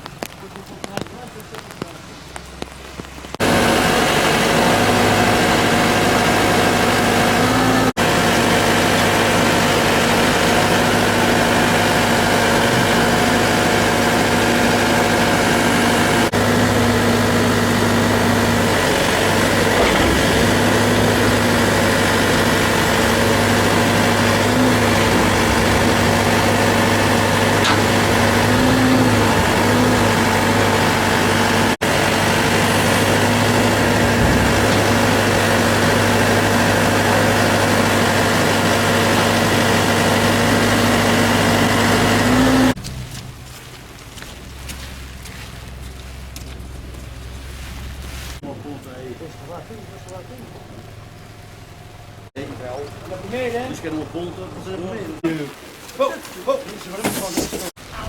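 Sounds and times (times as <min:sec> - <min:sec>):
engine idling: 0:00.0 - 0:55.2.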